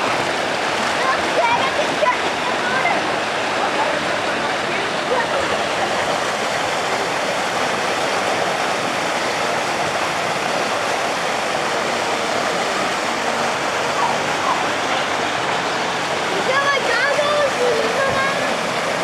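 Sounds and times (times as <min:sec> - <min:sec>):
water rushing down slides: 0:00.0 - 0:19.0.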